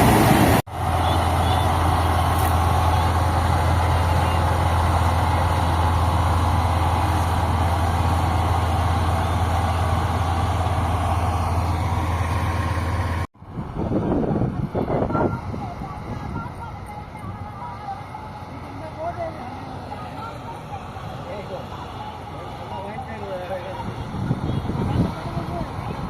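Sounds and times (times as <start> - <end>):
tractor diesel engine droning: 0.0 - 26.0.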